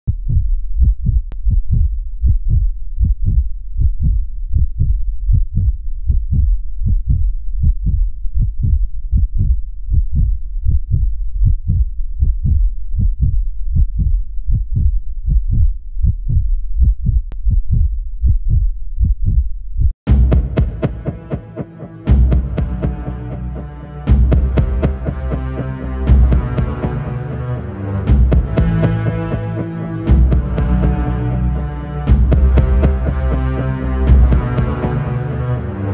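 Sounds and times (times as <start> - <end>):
heartbeat thumps: 0.1 - 35.7.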